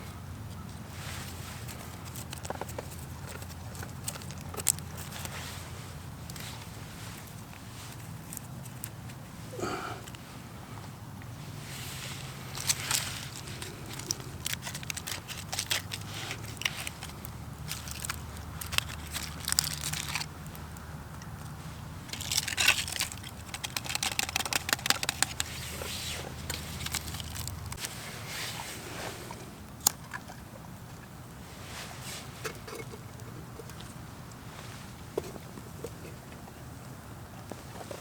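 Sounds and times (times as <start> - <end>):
camp gear crinkling and rustling: 0.0 - 38.0.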